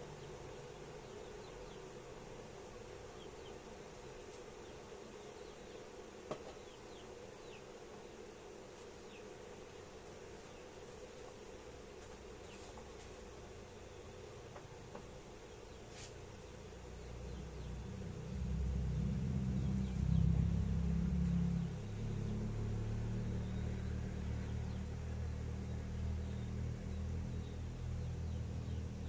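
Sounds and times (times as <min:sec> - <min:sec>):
faint buzzing hum: 0:00.0 - 0:29.0.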